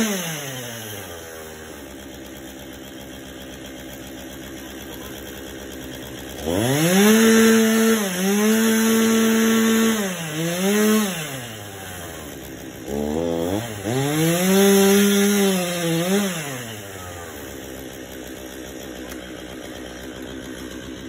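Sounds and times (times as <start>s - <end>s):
chainsaw cutting into tree trunk: 0.0s - 21.0s.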